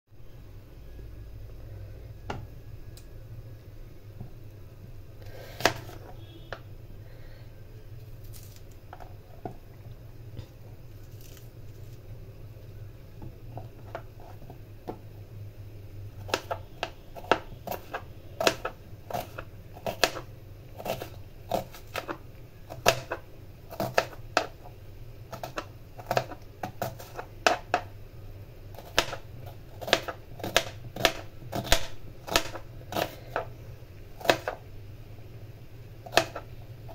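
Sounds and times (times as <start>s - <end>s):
steady low hum: 0.1s - 36.9s.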